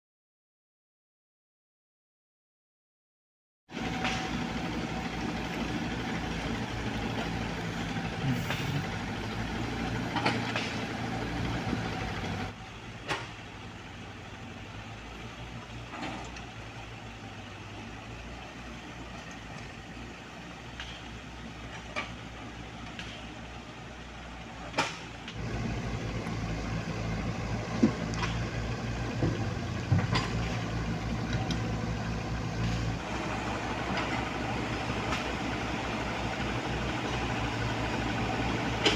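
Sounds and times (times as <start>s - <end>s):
diesel engines running: 3.7s - 38.9s.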